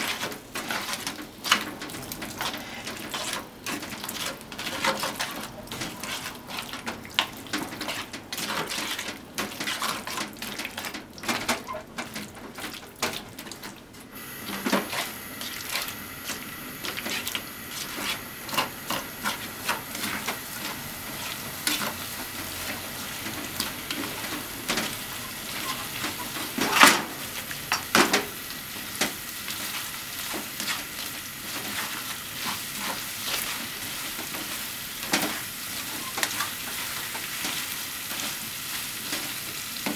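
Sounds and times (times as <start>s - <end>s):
tongs clicking and scraping pan: 0.0s - 13.8s, 14.7s - 28.2s, 29.0s - 38.4s
food sizzling in a frying pan: 0.0s - 39.9s.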